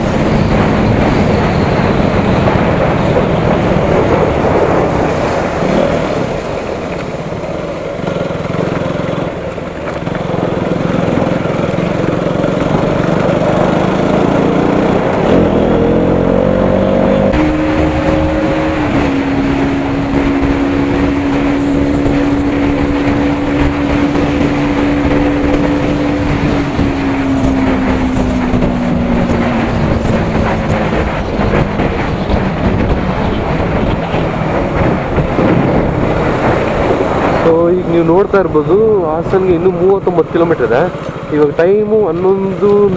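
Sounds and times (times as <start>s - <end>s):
motorcycle engine running: 0.0s - 42.9s
road noise: 0.0s - 42.9s
wind rush: 0.0s - 42.9s.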